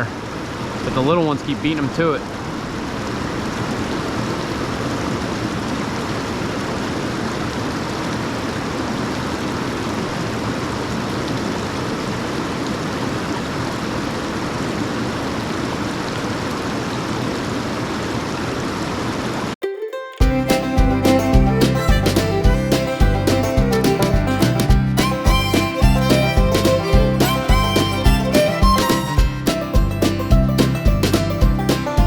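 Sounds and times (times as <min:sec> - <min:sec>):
stream water flowing: 0:00.0 - 0:19.6, 0:20.2 - 0:32.0.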